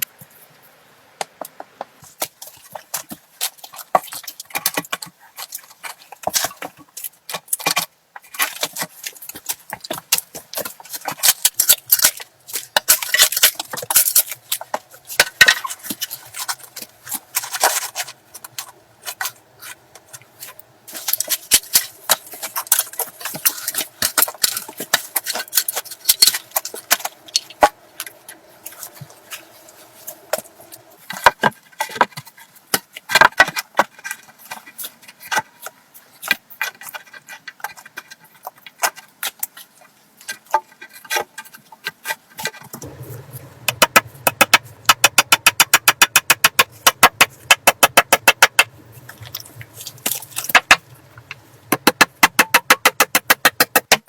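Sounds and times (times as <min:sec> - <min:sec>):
building work clicking and scraping: 0:00.0 - 0:54.0.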